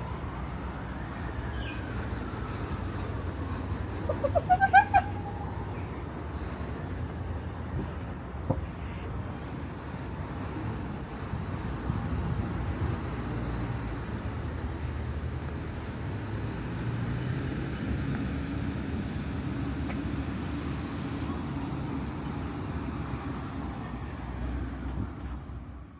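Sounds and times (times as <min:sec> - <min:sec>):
vehicle engine humming: 0:00.0 - 0:24.3
road noise: 0:00.0 - 0:25.9.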